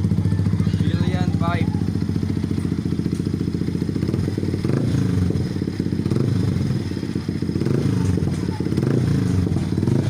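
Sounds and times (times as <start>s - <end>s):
loud motorcycle engine running: 0.0s - 10.0s.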